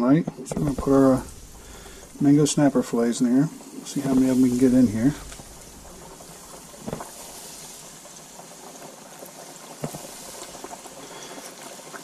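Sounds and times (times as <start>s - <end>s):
oil sizzling and bubbling: 0.4s - 12.0s.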